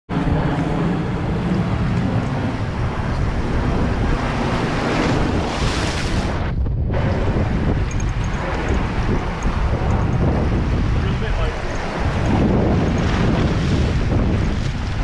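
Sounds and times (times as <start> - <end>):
wind buffeting microphone: 0.1 - 15.0
waves washing against rocks: 1.4 - 15.0.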